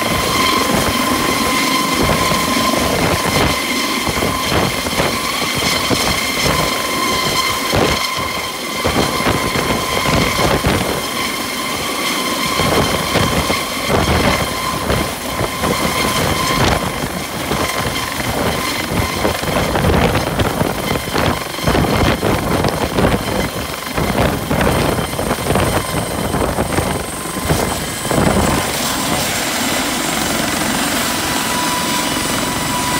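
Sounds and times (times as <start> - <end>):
helicopter rotor and turbine whine: 0.0 - 32.9
higher whine: 0.0 - 32.9.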